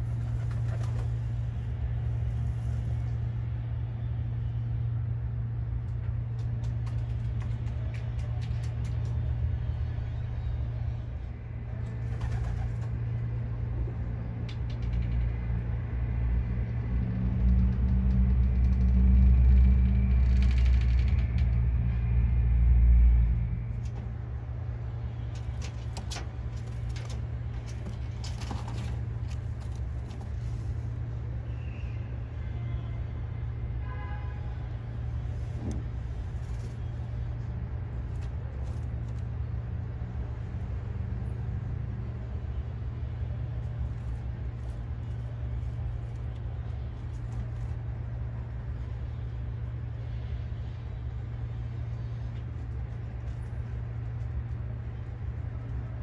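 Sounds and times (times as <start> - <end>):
steady low rumble: 0.0 - 33.8, 34.6 - 56.0.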